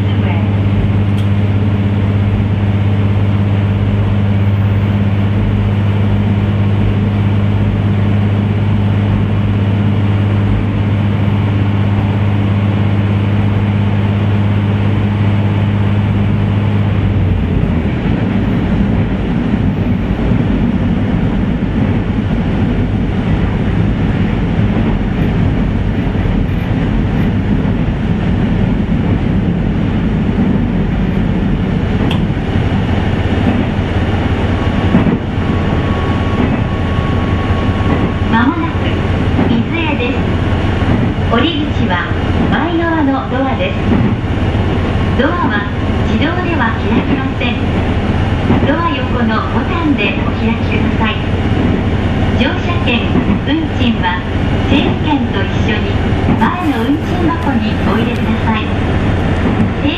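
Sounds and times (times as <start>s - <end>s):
low engine hum: 0.0s - 59.9s
wheels rumbling on rails: 0.0s - 59.9s.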